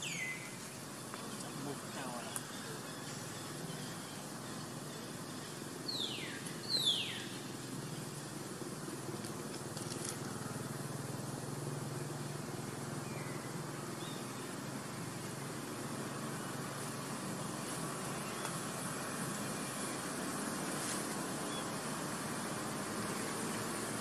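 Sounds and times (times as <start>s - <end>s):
low outdoor background noise: 0.0s - 24.0s.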